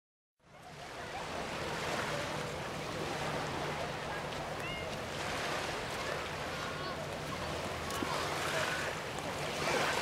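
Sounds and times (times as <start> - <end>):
wind: 0.4 - 10.0
surf washing: 0.5 - 10.0.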